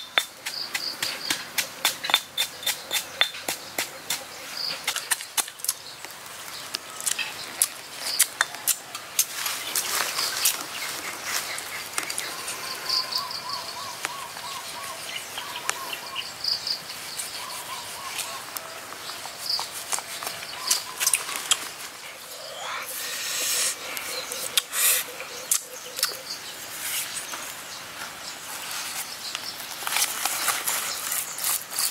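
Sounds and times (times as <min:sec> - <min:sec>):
insects calling: 0:00.0 - 0:31.7
birds chirping: 0:00.0 - 0:31.8.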